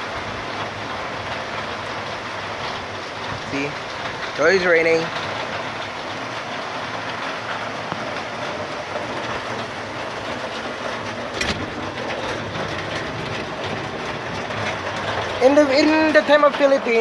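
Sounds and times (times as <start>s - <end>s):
rain falling steadily: 0.0s - 17.0s.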